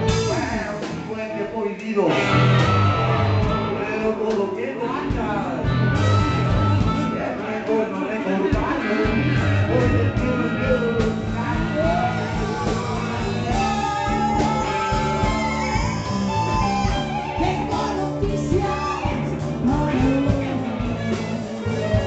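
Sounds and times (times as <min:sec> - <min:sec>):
electric bass: 0:00.0 - 0:01.5, 0:02.1 - 0:22.0
electric guitar: 0:00.0 - 0:22.0
woman singing into a microphone: 0:03.9 - 0:22.0.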